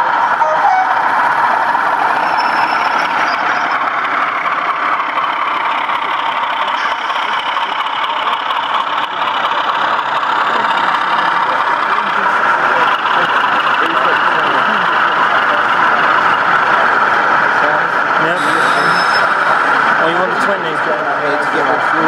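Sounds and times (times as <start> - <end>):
exhibition hall hubbub: 0.0 - 22.0
model diesel engine sound: 0.0 - 22.0.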